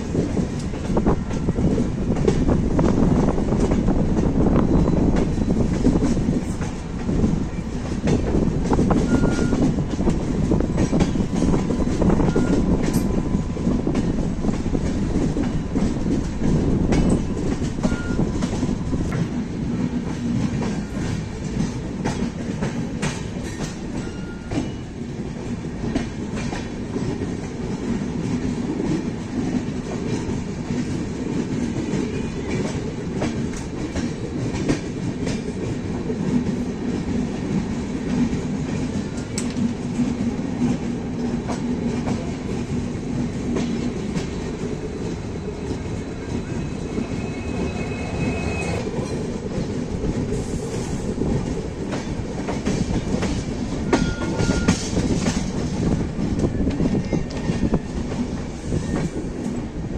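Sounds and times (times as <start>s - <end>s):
rail joint clicks: 0.0s - 59.9s
wheel and rail rumble: 0.0s - 59.9s.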